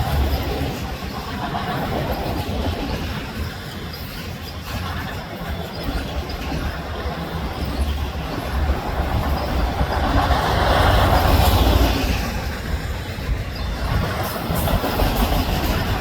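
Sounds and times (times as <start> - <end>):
freight train wheels rumbling and clacking: 0.0 - 16.0.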